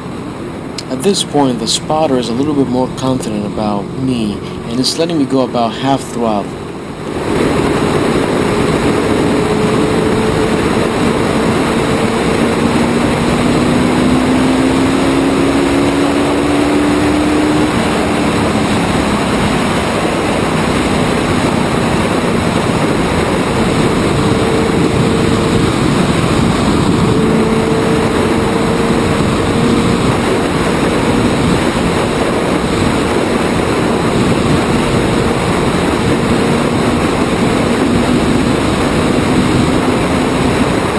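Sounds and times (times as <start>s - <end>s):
race car engine running: 0.0s - 40.9s.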